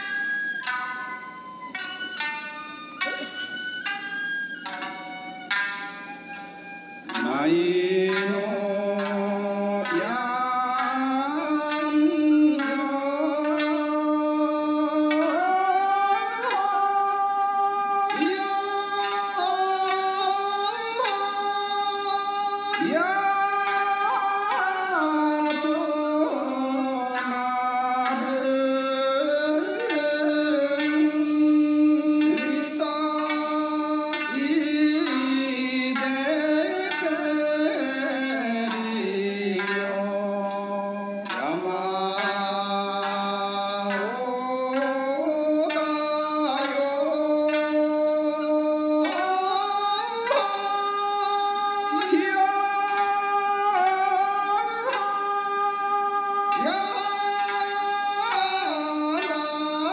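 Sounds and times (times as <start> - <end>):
bamboo flute: 0.0 - 10.2, 10.8 - 59.9
sanshin: 0.0 - 59.9.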